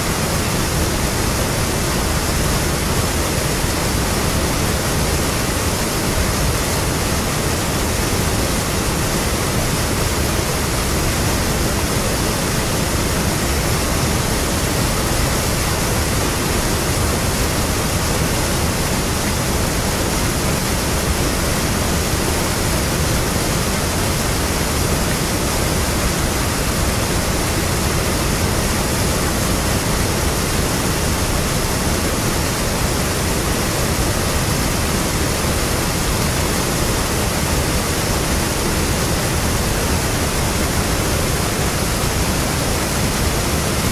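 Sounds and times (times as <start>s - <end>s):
water rushing over weir: 0.0s - 43.9s.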